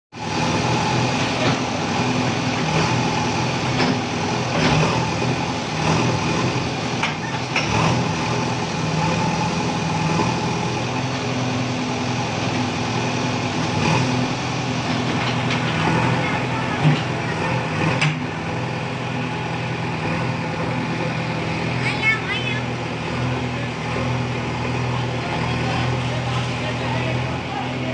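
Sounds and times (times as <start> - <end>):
diesel engine running under load: 0.1 - 27.9.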